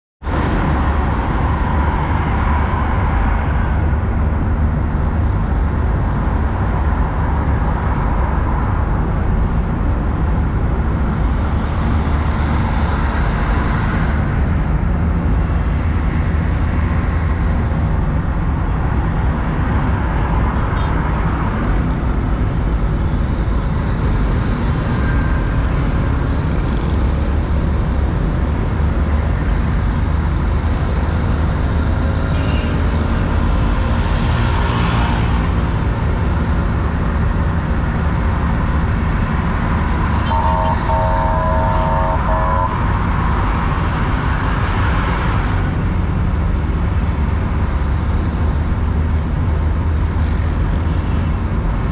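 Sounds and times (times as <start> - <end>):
car engine and tyre rumble: 0.2 - 51.9.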